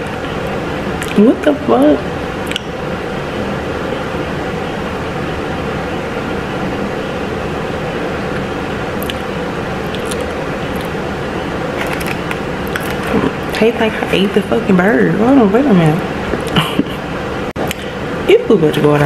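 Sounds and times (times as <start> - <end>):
mechanical hum and hiss: 0.0 - 19.0.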